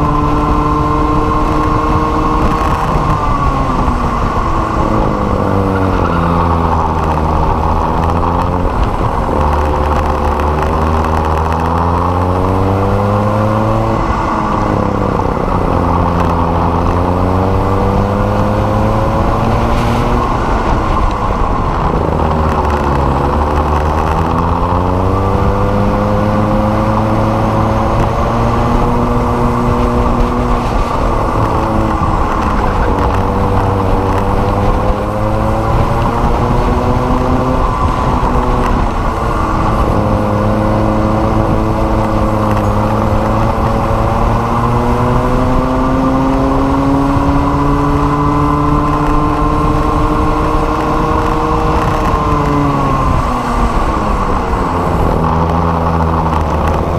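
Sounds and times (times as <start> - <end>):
go-kart engine revving: 0.0 - 56.9
wind noise: 0.0 - 56.9.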